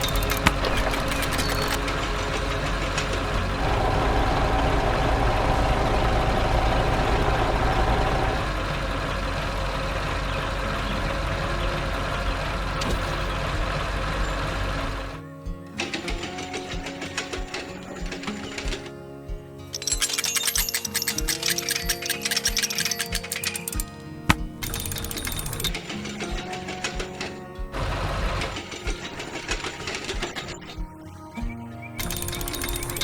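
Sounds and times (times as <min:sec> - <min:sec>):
excavator engine running: 0:00.0 - 0:31.0, 0:32.0 - 0:33.0.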